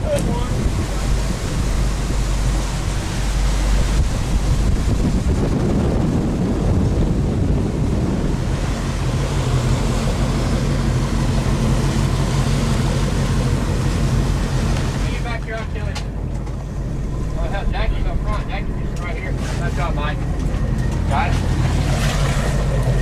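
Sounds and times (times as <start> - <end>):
low engine hum: 0.0 - 23.0
sea noise: 0.0 - 23.0
wind buffeting microphone: 0.0 - 23.0.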